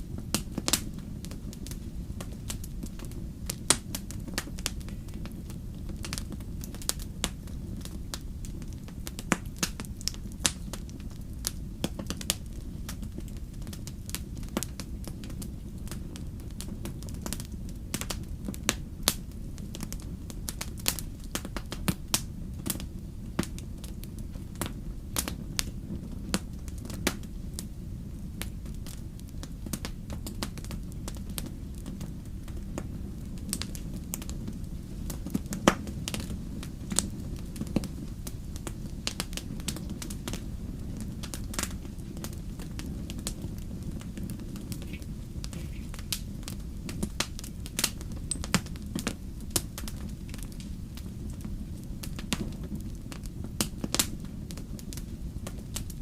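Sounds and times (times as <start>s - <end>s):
fire crackling: 0.0s - 56.0s
low rumble of flames: 0.0s - 56.0s.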